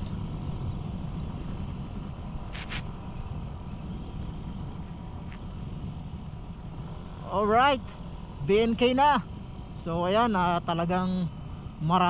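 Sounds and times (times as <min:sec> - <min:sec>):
scooter engine rumble: 0:00.0 - 0:11.8.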